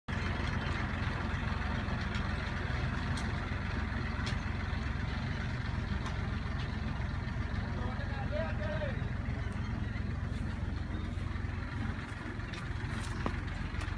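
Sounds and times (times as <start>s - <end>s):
tractor engine running: 0.1s - 13.9s.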